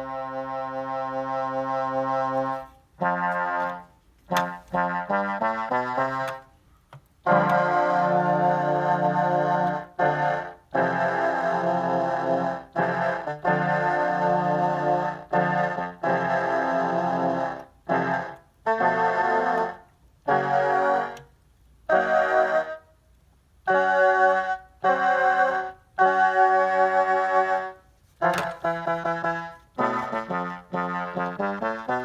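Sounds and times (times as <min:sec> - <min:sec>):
electronic keyboard playing notes: 0:00.0 - 0:06.5, 0:07.2 - 0:21.3, 0:21.9 - 0:22.9, 0:23.7 - 0:32.0.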